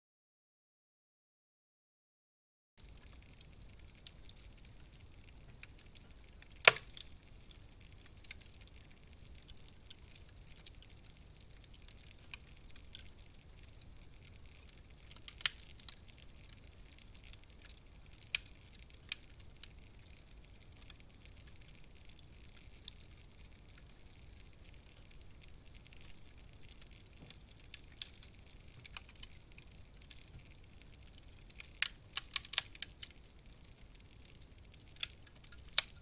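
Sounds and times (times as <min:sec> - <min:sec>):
wood fire crackling: 0:02.8 - 0:36.0.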